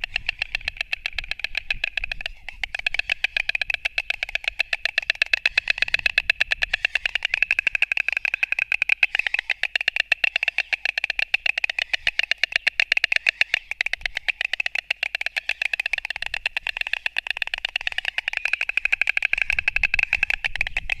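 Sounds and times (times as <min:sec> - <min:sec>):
storks clattering bills: 0:00.0 - 0:21.0.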